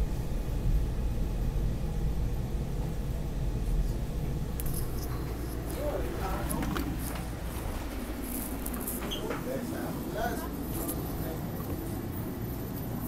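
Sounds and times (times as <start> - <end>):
train car rumbling: 0.0 - 13.0.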